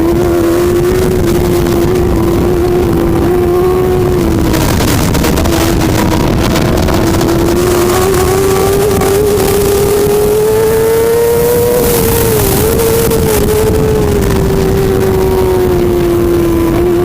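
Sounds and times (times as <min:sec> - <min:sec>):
low rumble of wind: 0:00.0 - 0:17.0
motorcycle engine at high revs: 0:00.0 - 0:17.0.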